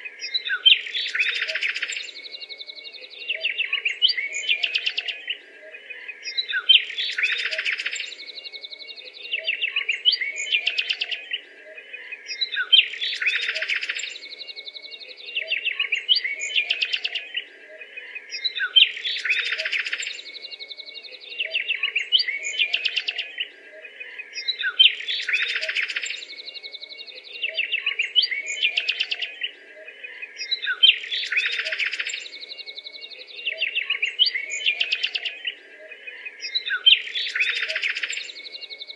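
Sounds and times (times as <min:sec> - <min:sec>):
birdsong chirps and trills: 0:00.0 - 0:38.9.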